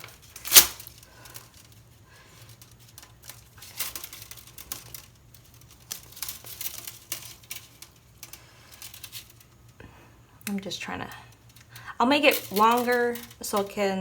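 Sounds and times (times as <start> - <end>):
wire clicks and rustles: 0.0 - 14.0.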